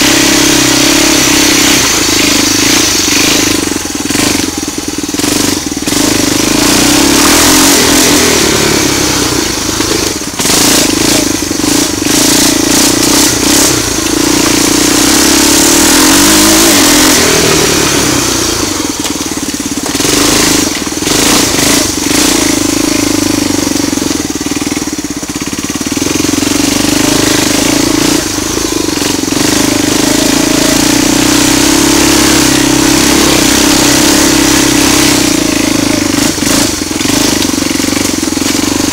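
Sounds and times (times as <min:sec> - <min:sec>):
loud atv engine running: 0:00.0 - 0:38.9.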